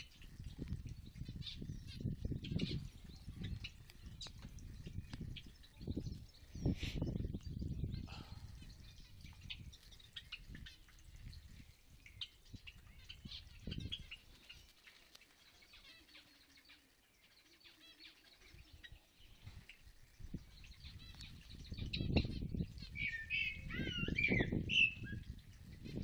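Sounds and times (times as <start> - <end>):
low rumble on microphone: 0.0 - 14.3, 18.5 - 26.0
small birds chirping: 0.0 - 26.0.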